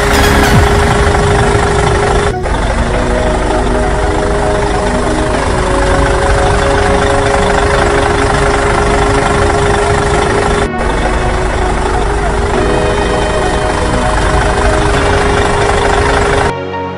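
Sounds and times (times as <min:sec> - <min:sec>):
tractor engine running: 0:00.0 - 0:16.5.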